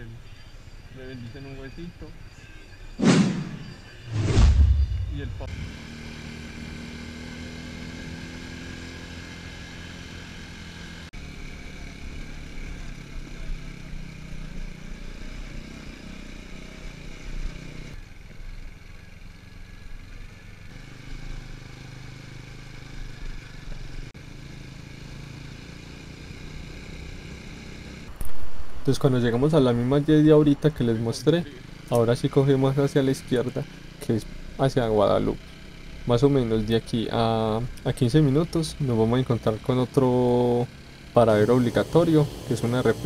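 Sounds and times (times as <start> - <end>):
wind and road noise: 0.0 - 43.0
motorcycle engine running: 4.6 - 43.0.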